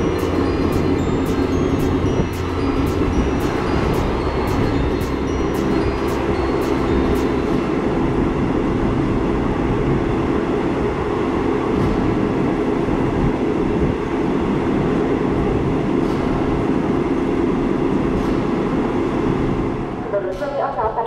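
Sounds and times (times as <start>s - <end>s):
train rumbling inside carriage: 0.0s - 21.0s.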